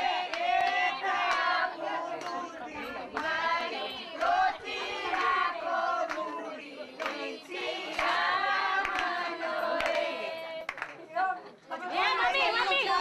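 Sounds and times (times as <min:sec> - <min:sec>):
women singing together: 0:00.0 - 0:13.0
hand claps: 0:00.2 - 0:11.0.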